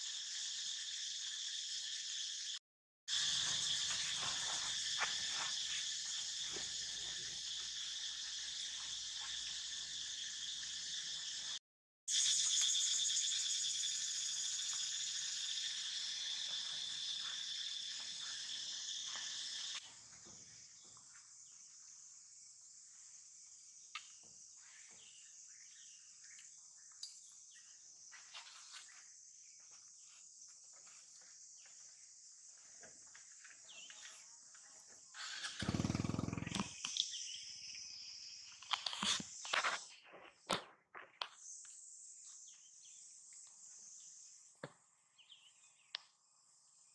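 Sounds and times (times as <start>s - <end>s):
high-pitched insect drone: 0.0s - 40.3s, 41.2s - 44.6s.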